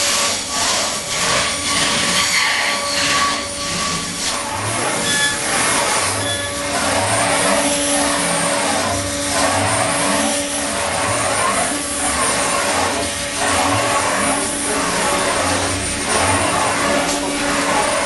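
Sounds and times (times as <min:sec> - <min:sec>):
cutter milling foam: 0:00.0 - 0:18.0
milling machine spindle whine: 0:00.0 - 0:18.0.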